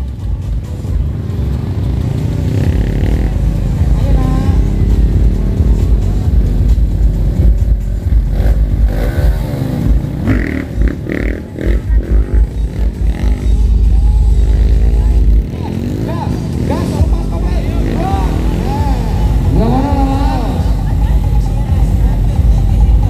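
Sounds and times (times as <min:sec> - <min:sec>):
motorcycle engines revving: 0:00.0 - 0:23.0
people's voices: 0:00.0 - 0:23.0.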